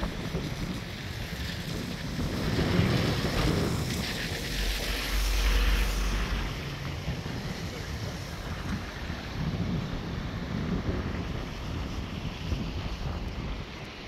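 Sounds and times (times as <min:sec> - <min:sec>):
river rushing: 0:00.0 - 0:14.0
wind buffeting microphone: 0:00.0 - 0:14.0.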